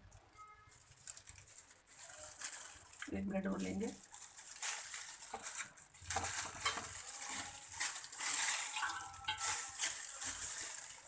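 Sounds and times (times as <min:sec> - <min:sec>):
soft rustling of bread: 0:00.0 - 0:11.0.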